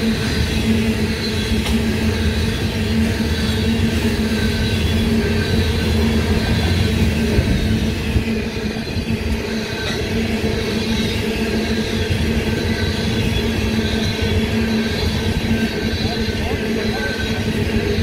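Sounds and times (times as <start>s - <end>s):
train wheels rolling on rail: 0.0s - 18.0s.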